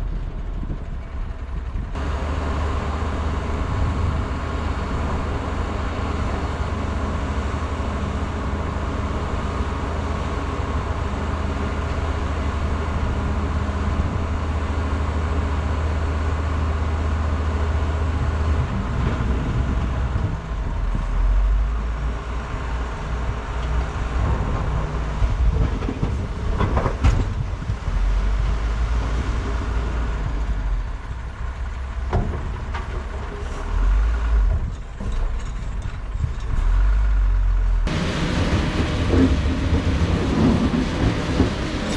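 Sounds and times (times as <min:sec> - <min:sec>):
heavy machinery diesel engines: 0:00.0 - 0:41.9.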